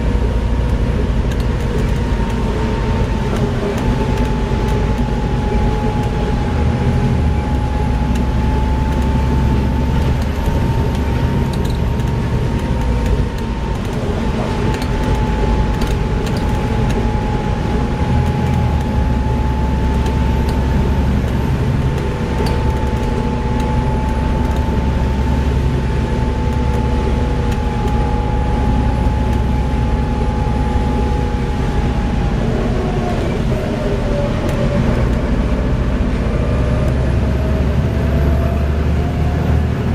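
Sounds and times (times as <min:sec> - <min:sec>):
bus diesel engine rumbling: 0:00.0 - 0:39.9
thin drivetrain whine: 0:00.0 - 0:39.9.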